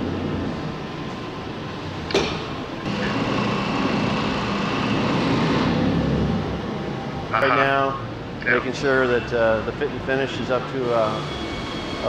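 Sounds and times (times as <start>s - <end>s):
factory machinery hum: 0.0s - 12.0s.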